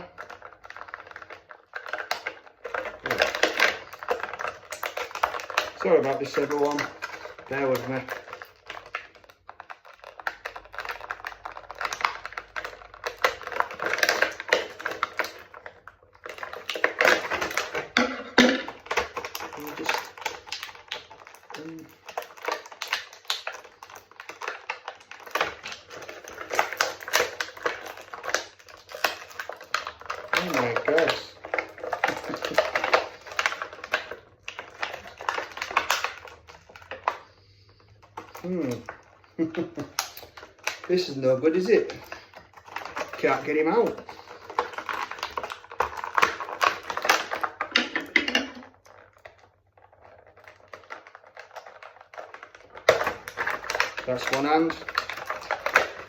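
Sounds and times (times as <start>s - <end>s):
plastic packaging crackling: 0.0s - 56.0s.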